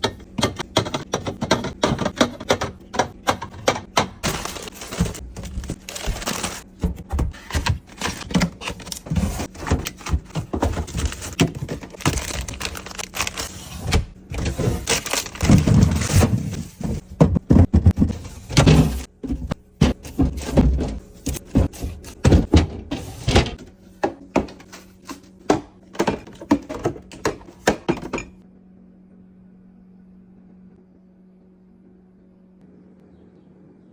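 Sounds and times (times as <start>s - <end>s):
containers knocking on fridge shelves: 0.0s - 28.4s.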